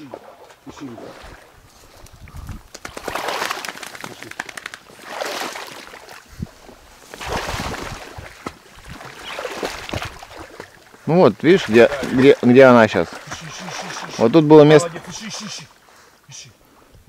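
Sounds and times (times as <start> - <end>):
footsteps sloshing through water: 0.0 - 15.9.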